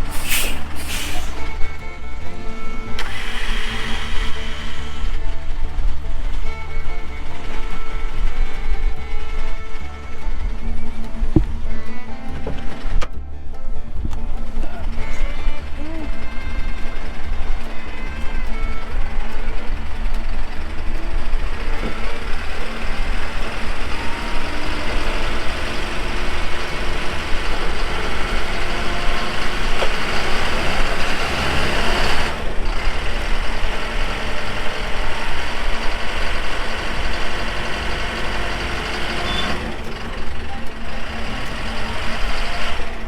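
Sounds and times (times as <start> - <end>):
truck engines running under load: 0.0 - 43.0.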